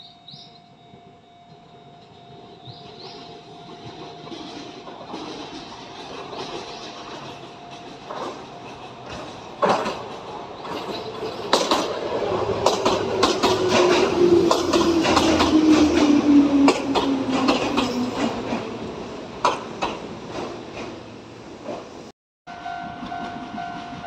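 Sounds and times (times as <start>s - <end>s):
electric train braking: 0.0s - 21.3s
falling whine of train: 0.0s - 24.0s
wheels clacking over rail joints: 2.7s - 22.1s.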